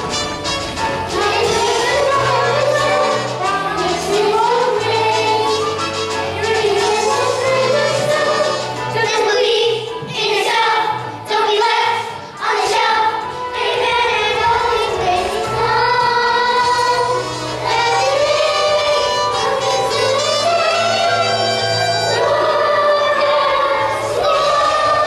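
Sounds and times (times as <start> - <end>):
children singing: 0.0 - 25.0
instrumental accompaniment: 0.0 - 25.0.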